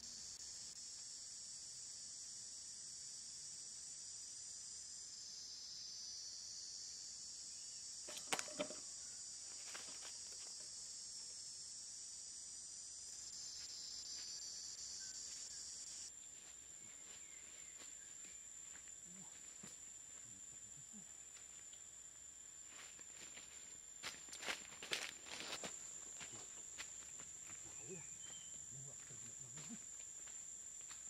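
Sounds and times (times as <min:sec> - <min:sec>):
shrill insect chorus: 0:00.0 - 0:31.0.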